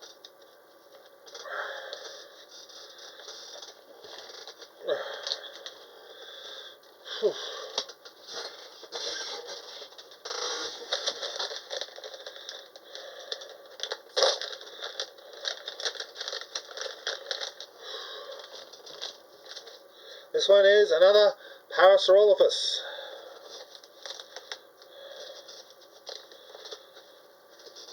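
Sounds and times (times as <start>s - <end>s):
packaging rustling and scraping: 0.0s - 19.9s, 23.3s - 27.9s.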